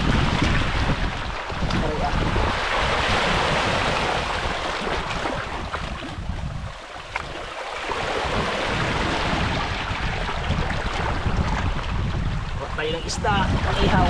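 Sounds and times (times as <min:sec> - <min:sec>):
sea waves washing: 0:00.0 - 0:14.0
wind buffeting microphone: 0:00.0 - 0:14.0.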